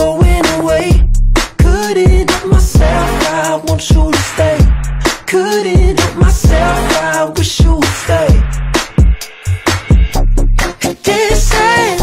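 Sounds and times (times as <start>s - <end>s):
pop music with drums and bass: 0.0s - 12.0s.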